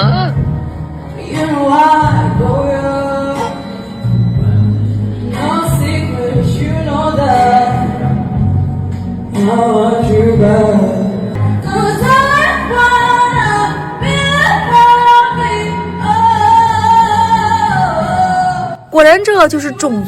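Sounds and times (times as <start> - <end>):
backing track with bass: 0.0 - 20.0
woman singing through microphone: 1.1 - 4.0, 5.2 - 8.4, 9.4 - 20.0.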